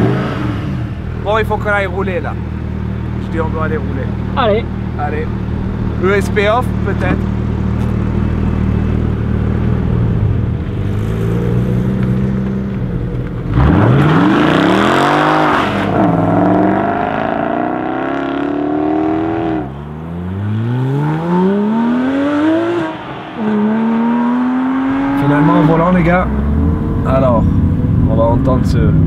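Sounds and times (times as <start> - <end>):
sports car engines accelerating: 0.0 - 29.0.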